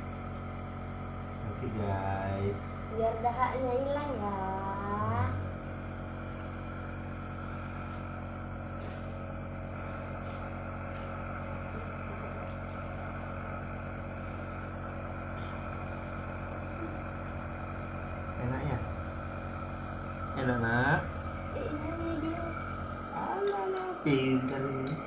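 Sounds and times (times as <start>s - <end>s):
small motor humming: 0.0s - 25.0s.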